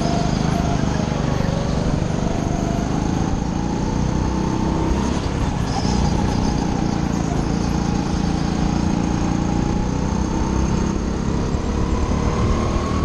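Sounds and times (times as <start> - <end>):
go-kart engine running hard: 0.0 - 13.0.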